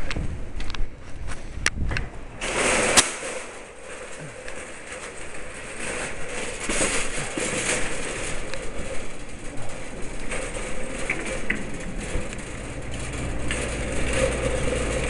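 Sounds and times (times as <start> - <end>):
handling noise on microphone: 0.0 - 15.0.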